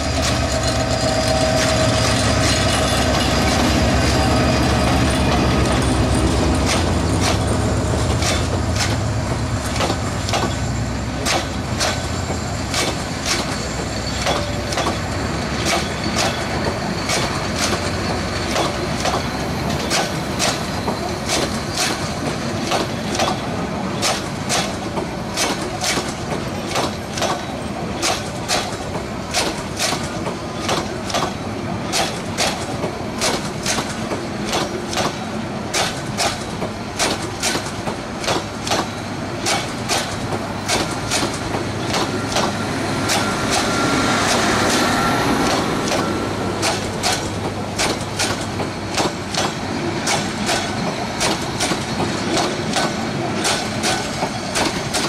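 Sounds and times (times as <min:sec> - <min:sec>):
train rumble: 0:00.0 - 0:55.0
train wheels clickety-clack: 0:00.0 - 0:55.0.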